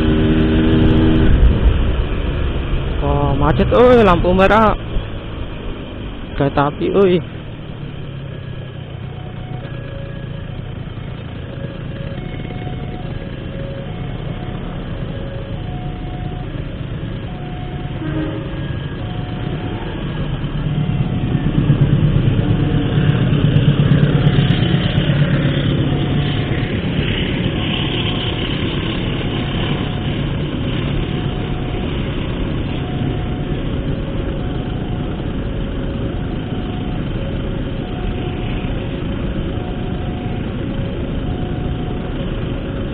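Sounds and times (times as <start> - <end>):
train rumble and rail noise: 0.0 - 42.9
low engine idle: 7.2 - 42.9.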